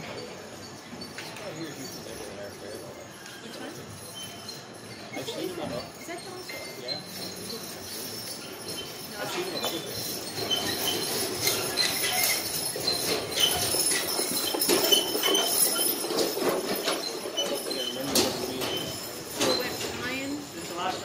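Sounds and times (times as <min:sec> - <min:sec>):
harness fittings jingling: 0:00.0 - 0:21.0.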